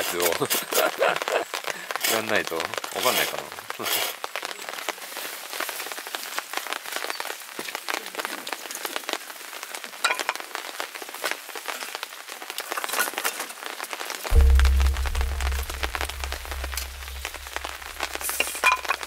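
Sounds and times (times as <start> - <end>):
rain drops falling: 0.0 - 19.0.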